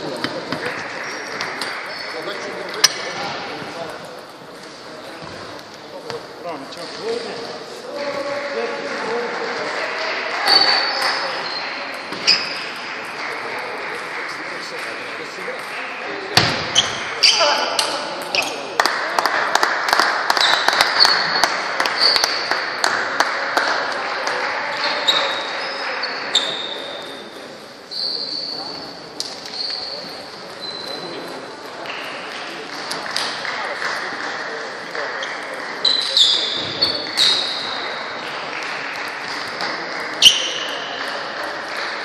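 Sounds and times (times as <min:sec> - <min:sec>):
sports hall hubbub: 0:00.0 - 0:42.0.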